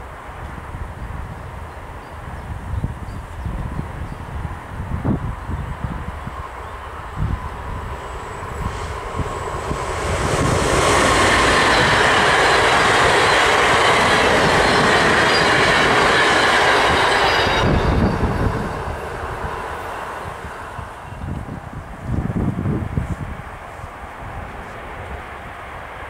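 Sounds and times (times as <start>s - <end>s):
high whine from train wheels: 0.0s - 26.0s
train passing at speed: 0.0s - 26.0s.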